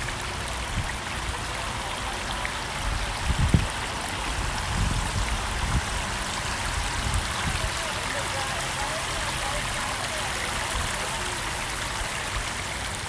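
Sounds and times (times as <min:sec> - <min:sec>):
water trickling over stone wall: 0:00.0 - 0:13.0.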